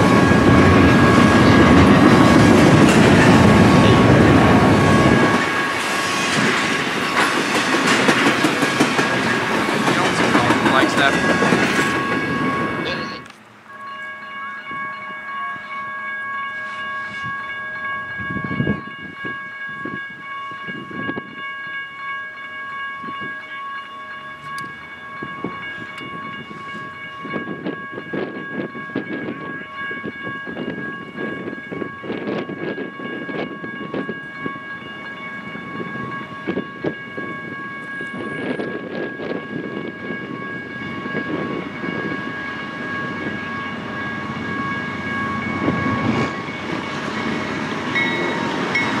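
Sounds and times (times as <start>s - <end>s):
freight train whine and rumble: 0.0s - 49.0s.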